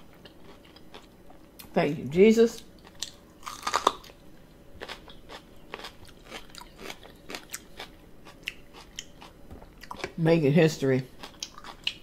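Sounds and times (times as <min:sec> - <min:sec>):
person chewing crunchy pepper: 0:00.0 - 0:01.7, 0:02.6 - 0:10.2, 0:11.0 - 0:12.0.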